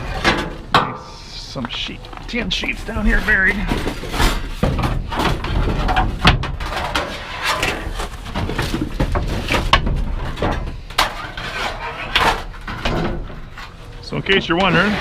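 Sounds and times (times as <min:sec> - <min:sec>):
sheet metal clanking in a dumpster: 0:00.0 - 0:01.3, 0:02.5 - 0:15.0.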